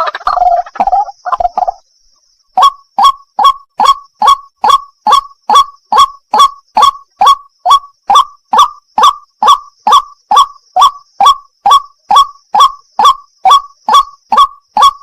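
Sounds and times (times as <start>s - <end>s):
faint steady high tone: 0.0s - 15.0s.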